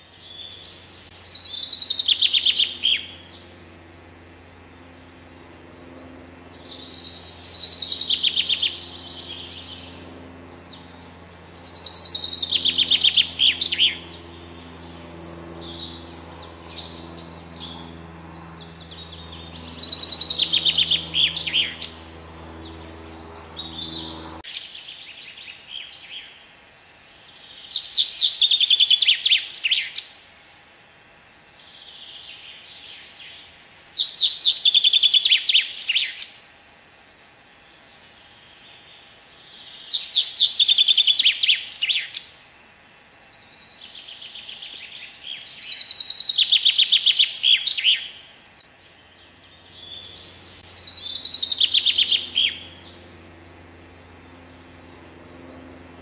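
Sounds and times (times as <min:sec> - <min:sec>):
chaffinch singing: 0:00.0 - 0:30.1, 0:37.6 - 0:56.0.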